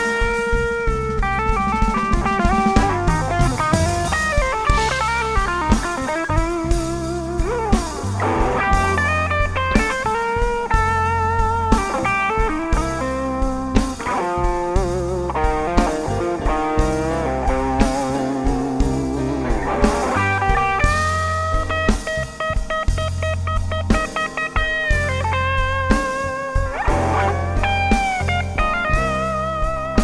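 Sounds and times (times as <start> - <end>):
electric guitar lead: 0.0 - 30.0
live blues band playing: 0.0 - 30.0.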